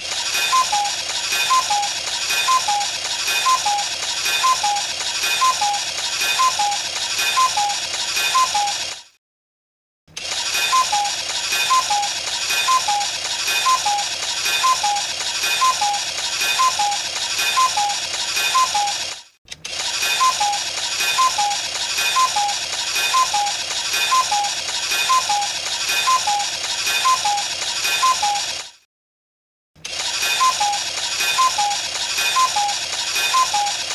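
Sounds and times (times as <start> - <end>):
clock works rattling: 0.0 - 9.1, 10.1 - 28.8, 29.8 - 33.9
cuckoo clock call: 0.3 - 8.8, 10.5 - 19.0, 20.0 - 28.5, 30.2 - 33.9.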